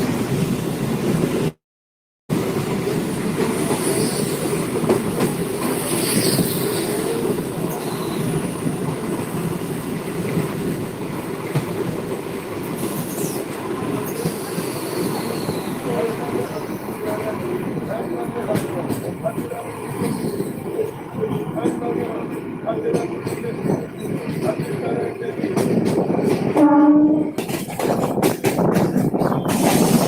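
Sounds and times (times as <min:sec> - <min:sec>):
train wheels rumbling on track: 0:02.3 - 0:30.0.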